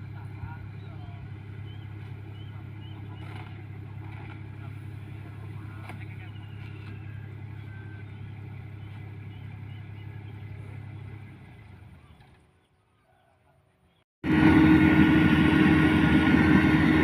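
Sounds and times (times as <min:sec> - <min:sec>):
combine harvester engine humming: 0:00.0 - 0:12.6, 0:14.2 - 0:17.0
loud engine and machinery noise: 0:00.0 - 0:12.7, 0:14.2 - 0:17.0.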